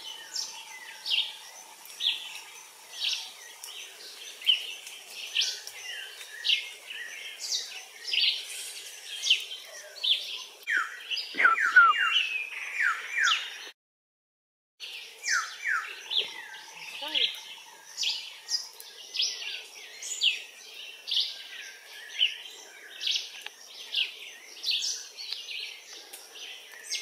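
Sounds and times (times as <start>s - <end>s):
birds chirping: 0.0s - 13.8s, 14.8s - 27.0s.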